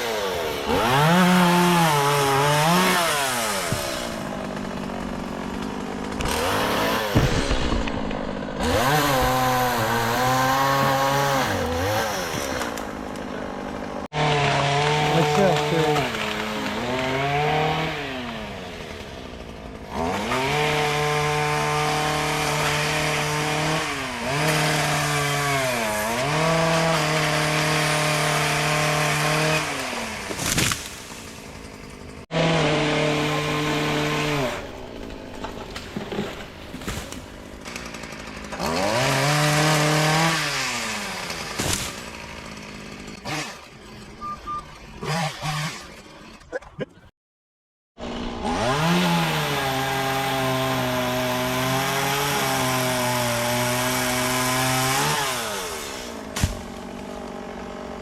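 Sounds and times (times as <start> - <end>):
chainsaw cutting wood: 0.0 - 46.5, 48.0 - 58.0.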